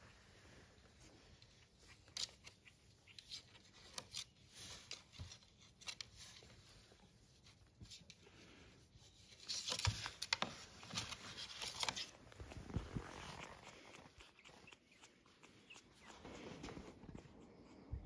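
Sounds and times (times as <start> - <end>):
rustling of stroking puppy: 0.0 - 18.0.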